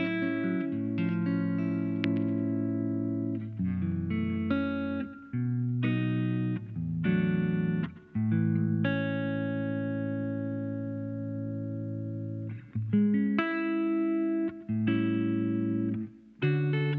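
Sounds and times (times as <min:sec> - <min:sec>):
electric guitar chords: 0:00.0 - 0:16.9.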